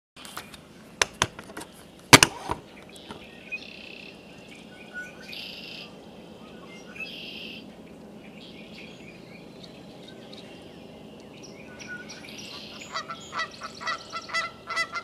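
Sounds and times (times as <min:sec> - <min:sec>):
faint outdoor hiss: 0:00.2 - 0:15.0.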